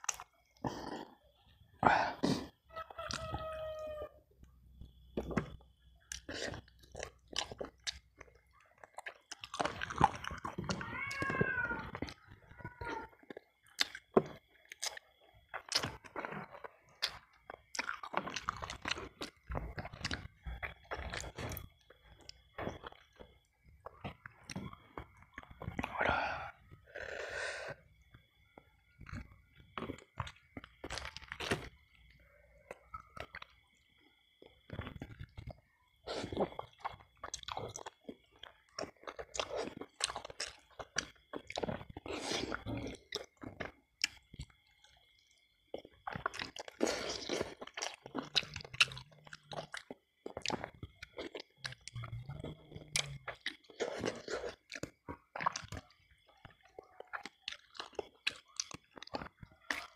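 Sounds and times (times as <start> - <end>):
man chewing with wet smacks: 0.0 - 1.2, 4.4 - 11.2, 13.1 - 26.1, 28.1 - 32.1, 32.7 - 59.9.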